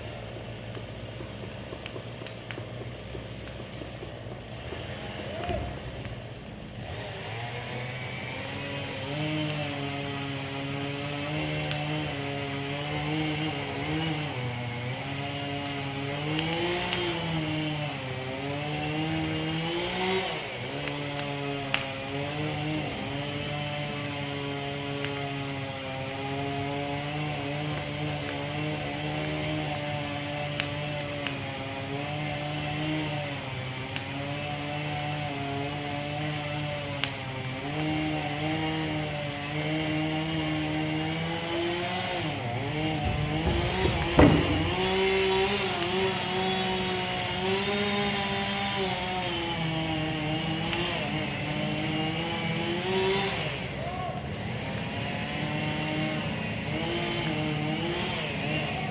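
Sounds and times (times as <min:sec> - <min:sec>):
chainsaw cutting into tree: 0:00.0 - 0:58.9.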